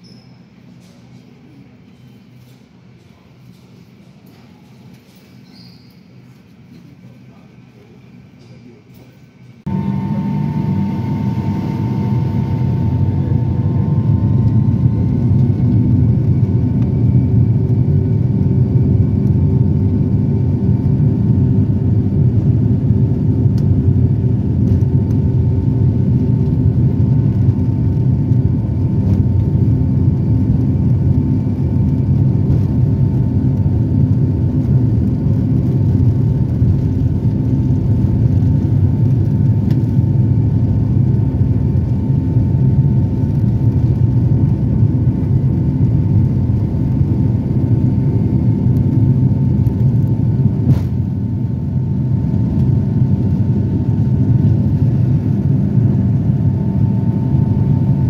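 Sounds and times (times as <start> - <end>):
jet engines rumbling and whining: 0.0 - 58.0.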